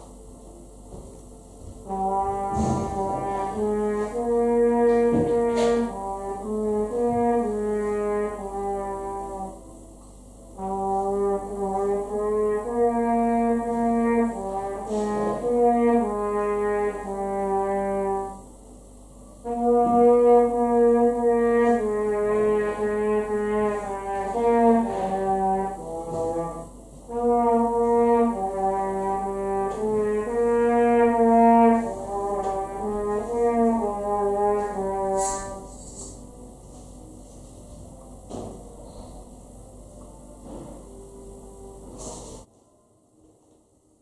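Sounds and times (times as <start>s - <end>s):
horn playing slow melody: 0.0s - 42.5s.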